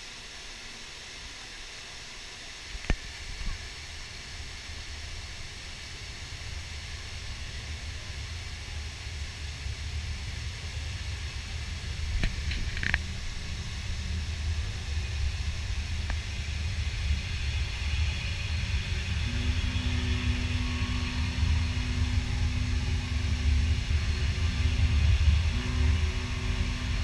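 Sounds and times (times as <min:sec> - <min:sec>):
waterfall hissing: 0:00.0 - 0:27.0
low rumble: 0:04.2 - 0:27.0.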